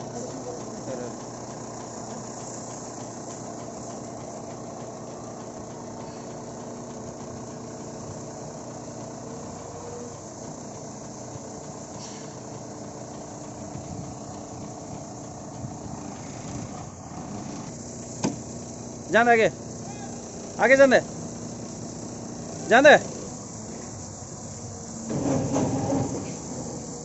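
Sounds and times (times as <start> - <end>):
steady hiss: 0.0 - 27.0
washing machine humming: 0.0 - 27.0.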